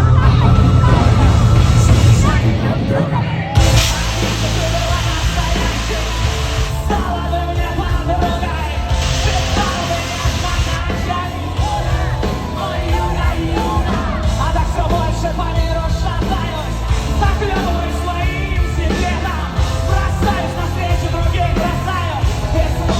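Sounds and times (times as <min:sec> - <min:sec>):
rock backing music: 0:00.0 - 0:22.9.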